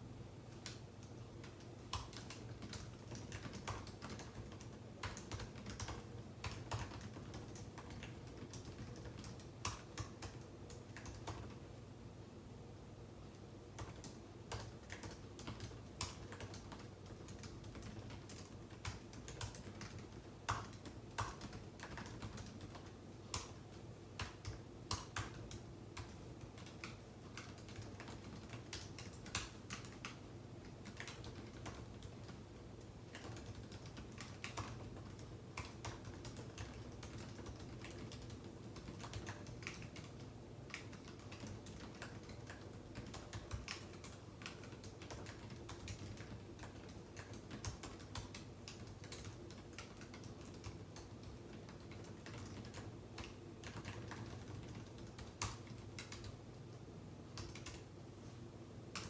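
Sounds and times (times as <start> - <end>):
typing on computer keyboard: 0.5 - 11.7, 13.7 - 56.7, 57.3 - 57.9.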